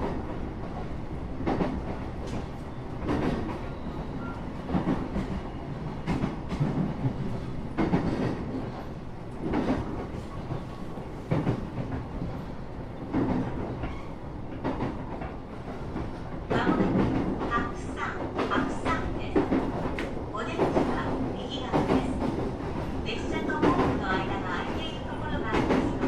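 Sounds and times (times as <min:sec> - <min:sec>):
train car rumble: 0:00.0 - 0:26.0.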